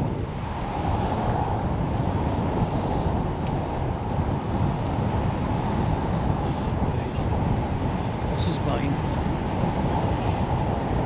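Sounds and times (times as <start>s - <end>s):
wind blowing on microphone: 0.0s - 11.0s.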